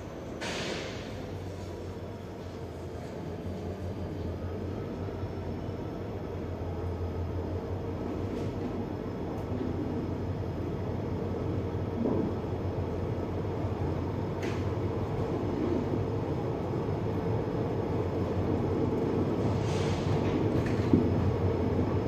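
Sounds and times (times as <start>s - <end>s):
train coach rumble and hum: 0.0s - 22.0s.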